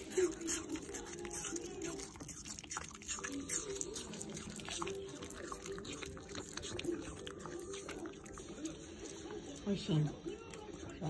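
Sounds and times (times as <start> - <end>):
dog crunching apple: 0.0 - 11.0.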